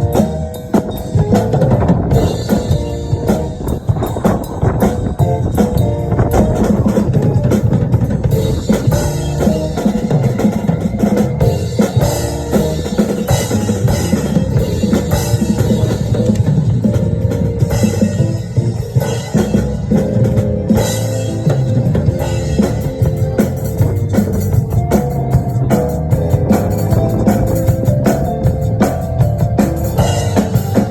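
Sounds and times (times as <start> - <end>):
drum kit playing: 0.0 - 30.9.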